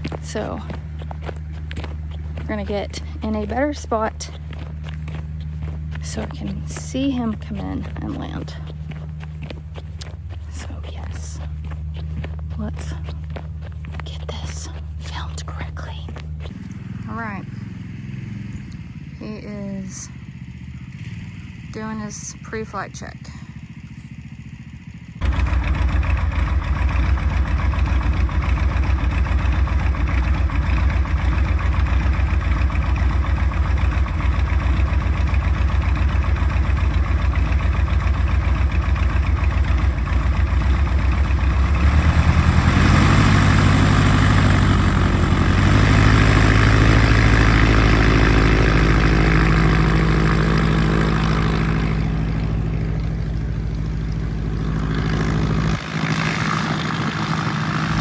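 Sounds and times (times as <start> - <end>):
light airplane engine and propeller: 0.0 - 58.0.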